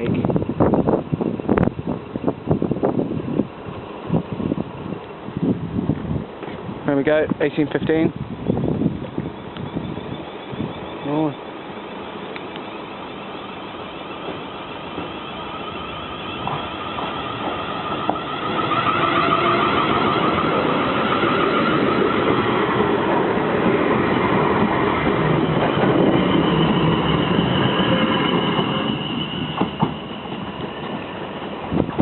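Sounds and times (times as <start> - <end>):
train wheels rumbling on rail: 0.0 - 32.0
train whine: 0.0 - 32.0.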